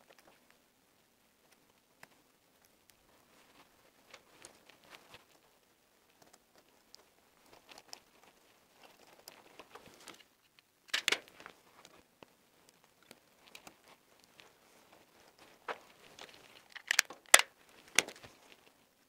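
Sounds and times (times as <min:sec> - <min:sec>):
rustling of wires: 0:00.0 - 0:19.0.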